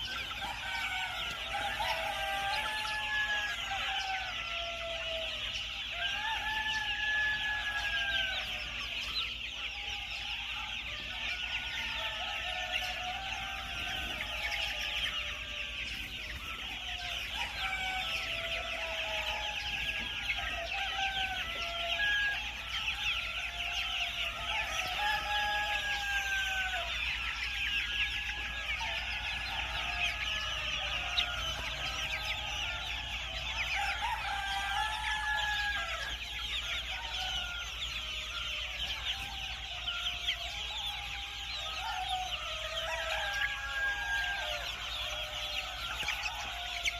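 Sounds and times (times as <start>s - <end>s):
chickens clucking and calling: 0.0s - 46.9s.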